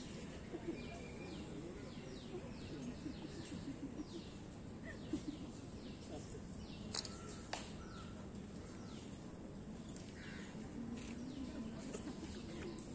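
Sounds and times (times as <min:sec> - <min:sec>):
low background noise: 0:00.0 - 0:12.9.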